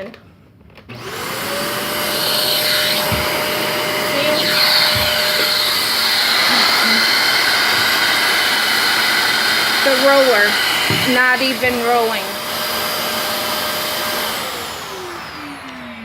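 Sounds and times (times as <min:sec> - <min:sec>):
vacuum cleaner running: 0:00.9 - 0:16.0.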